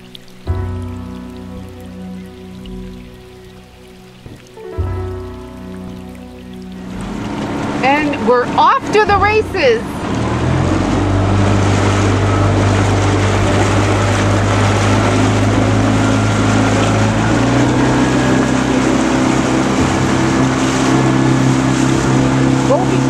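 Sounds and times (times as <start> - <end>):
boat engine running: 0.0 - 23.0
water rushing past hull: 0.0 - 23.0.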